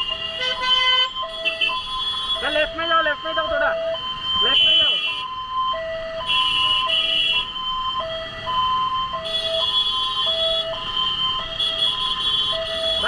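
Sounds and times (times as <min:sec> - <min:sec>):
ambulance two-tone siren: 0:00.0 - 0:13.0.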